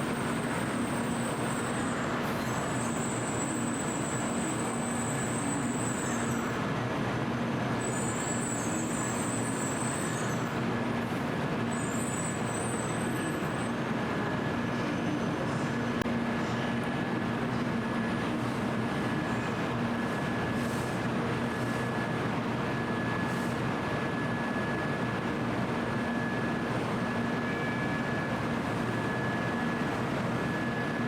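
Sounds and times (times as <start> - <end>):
train platform hum and rumble: 0.0 - 31.0.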